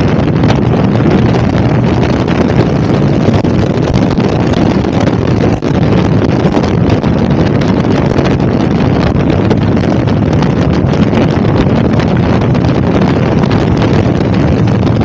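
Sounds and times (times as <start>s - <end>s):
motorcycle engine drone: 0.0s - 15.0s
wind buffeting microphone: 0.0s - 15.0s.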